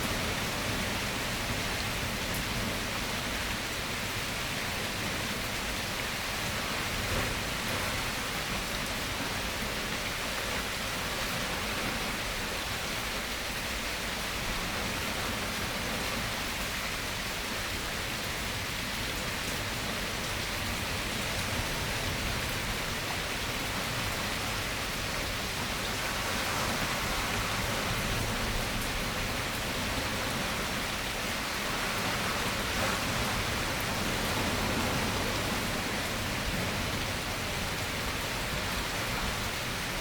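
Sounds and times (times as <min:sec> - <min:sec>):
steady rainfall: 0:00.0 - 0:40.0.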